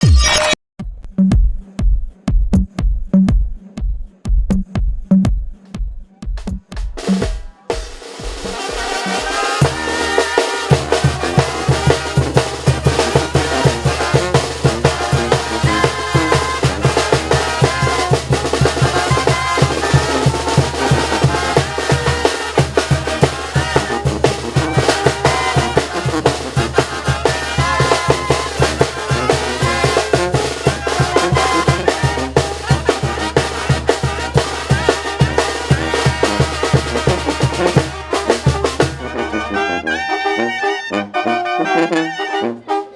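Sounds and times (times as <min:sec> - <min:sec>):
steady drum beat: 0:00.8 - 0:39.2
horns playing melody: 0:07.0 - 0:42.9.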